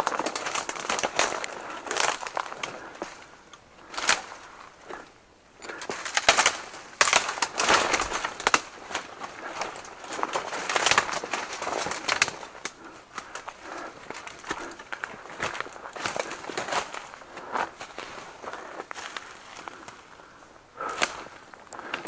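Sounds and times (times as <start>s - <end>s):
dry vegetation rustling: 0.0s - 22.0s.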